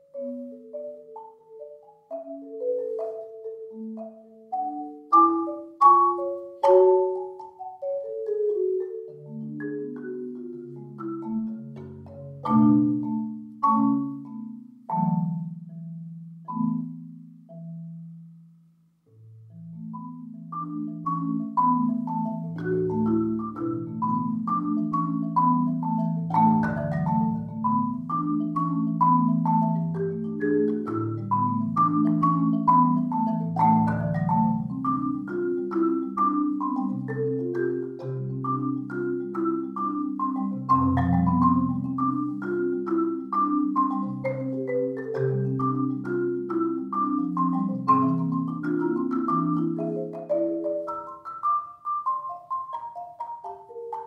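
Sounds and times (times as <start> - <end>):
marimba played with mallets: 0.0 - 54.0.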